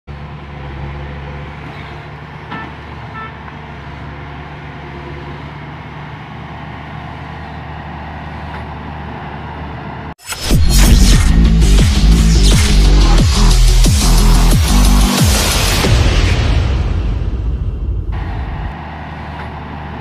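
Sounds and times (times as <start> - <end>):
harvester engine droning: 0.1 - 10.2, 10.8 - 20.0.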